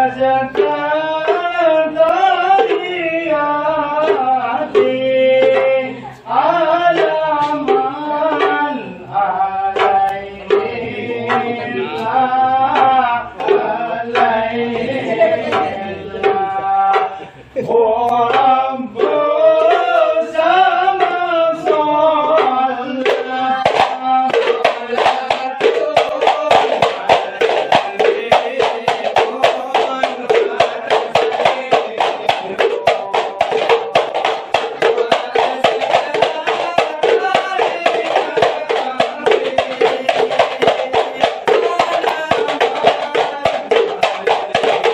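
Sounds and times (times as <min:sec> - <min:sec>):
hand-struck frame drums: 0:00.0 - 0:44.9
men singing: 0:00.0 - 0:44.9.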